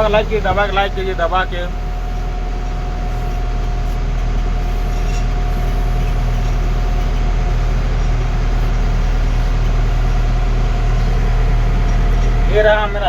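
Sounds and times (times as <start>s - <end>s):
diesel engine drone with whine: 0.0s - 13.0s.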